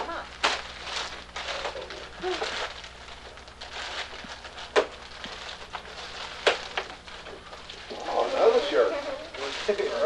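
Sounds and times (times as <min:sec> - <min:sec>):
wrapping paper crinkling: 0:00.0 - 0:10.0.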